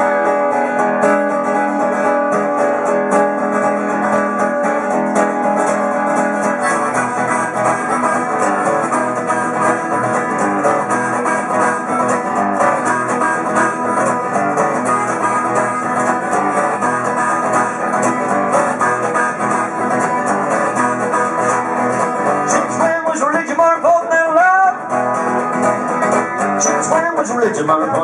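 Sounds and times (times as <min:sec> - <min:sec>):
live instrumental guitar music: 0:00.0 - 0:28.0.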